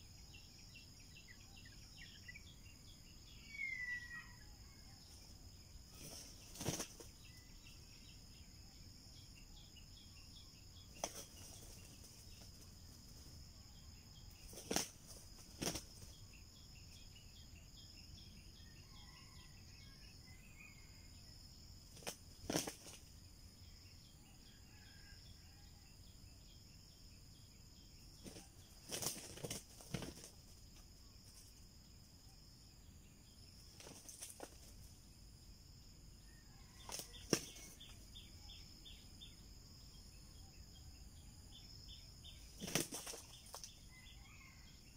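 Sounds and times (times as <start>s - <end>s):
insect chorus buzzing: 0.0s - 44.9s.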